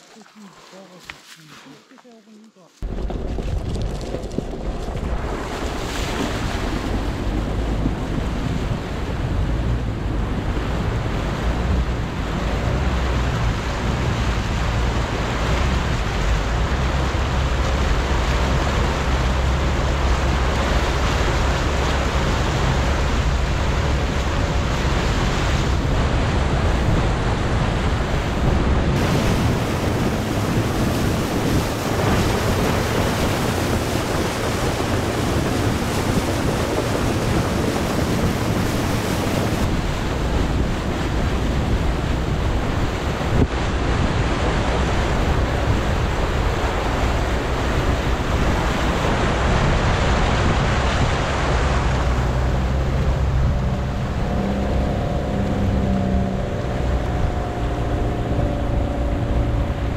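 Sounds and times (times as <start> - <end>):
low rumble: 2.8 - 59.9
wind buffeting microphone: 2.8 - 59.9.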